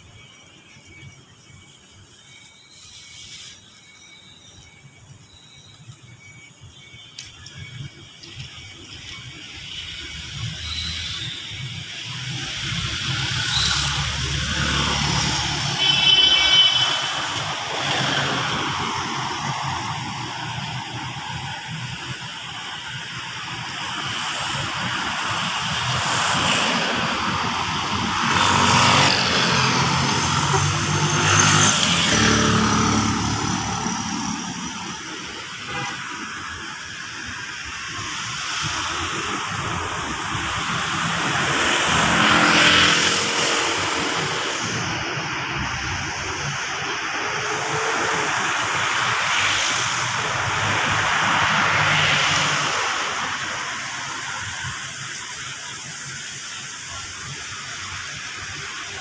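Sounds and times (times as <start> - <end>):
traffic passing on wet road: 6.1 - 59.0.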